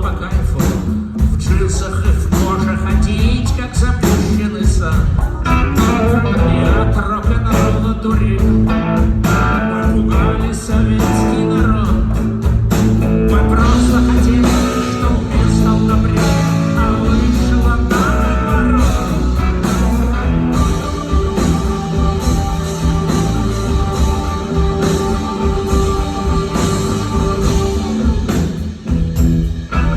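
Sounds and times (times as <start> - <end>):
bass guitar: 0.0 - 29.9
drums: 0.0 - 29.9
electric guitar: 1.5 - 29.9.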